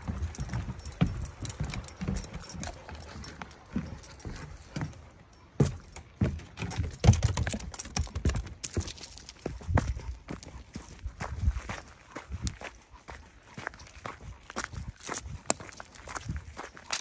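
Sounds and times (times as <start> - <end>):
footsteps on wooden planks: 0.0 - 17.0.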